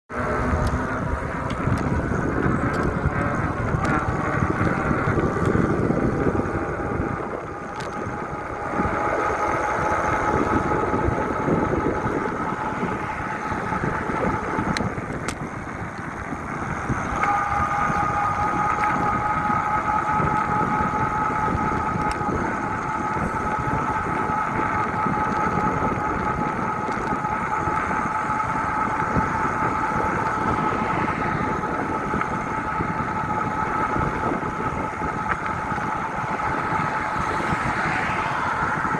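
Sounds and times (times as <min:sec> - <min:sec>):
two-note whine: 0:00.1 - 0:38.9
wind rushing over microphone: 0:00.1 - 0:38.9.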